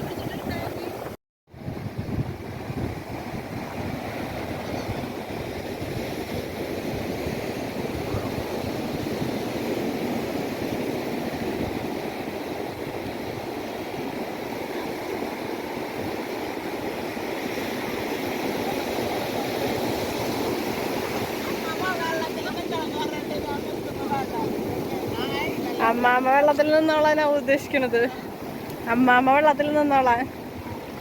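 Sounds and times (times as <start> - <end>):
sea surf breaking on beach: 0.0 - 31.0.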